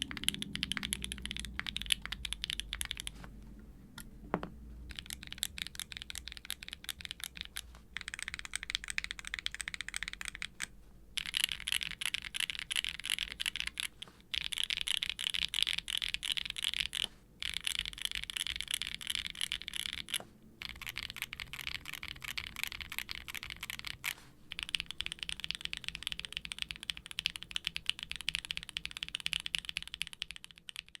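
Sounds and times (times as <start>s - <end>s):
typing on mechanical keyboard: 0.0s - 3.1s, 4.9s - 31.0s.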